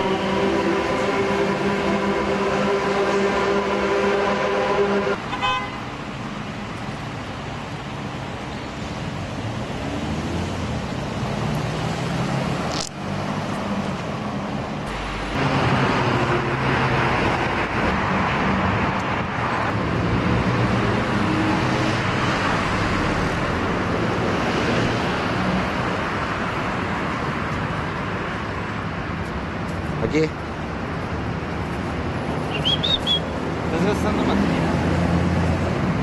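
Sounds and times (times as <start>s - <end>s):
passing traffic rushing: 0.0s - 36.0s.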